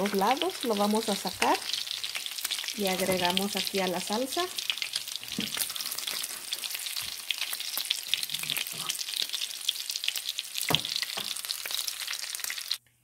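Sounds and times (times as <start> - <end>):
salsa sizzling in a frying pan: 0.0 - 12.8.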